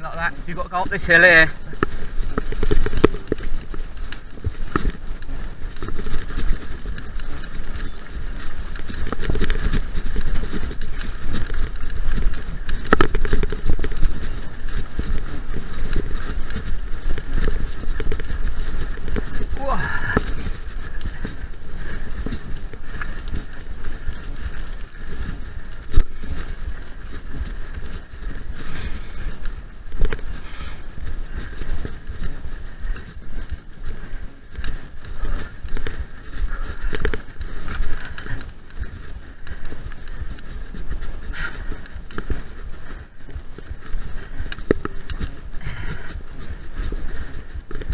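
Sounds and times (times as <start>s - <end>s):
bike rattling and knocking: 0.0s - 47.9s
wind rumble on microphone: 0.0s - 47.9s.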